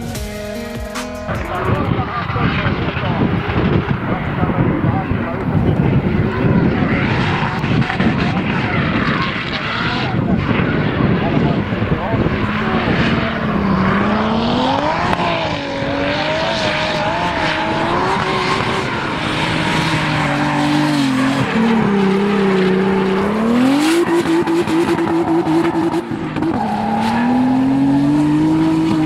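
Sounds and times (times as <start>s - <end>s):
car engine revving: 1.3s - 29.0s.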